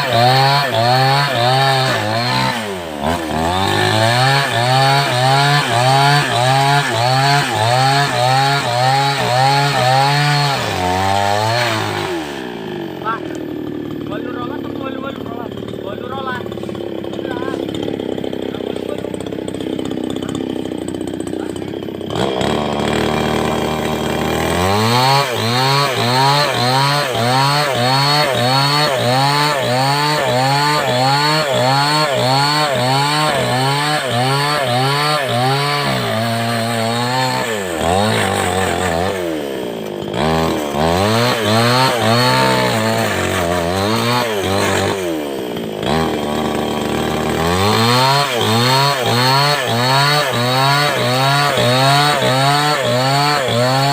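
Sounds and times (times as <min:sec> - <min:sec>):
chainsaw cutting timber: 0:00.0 - 0:53.9.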